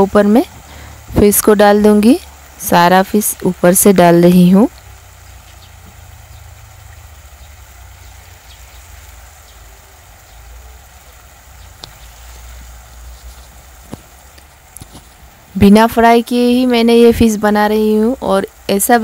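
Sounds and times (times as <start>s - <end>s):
sauce sizzling and bubbling in wok: 0.0s - 19.0s.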